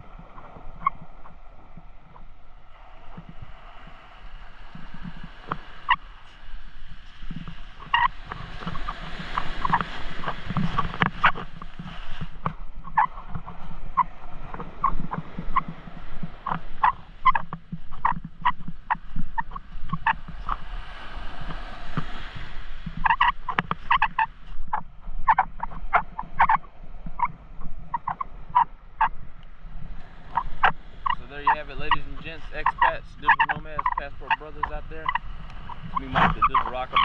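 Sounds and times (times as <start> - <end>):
wave washing up shore: 0.0 - 37.0.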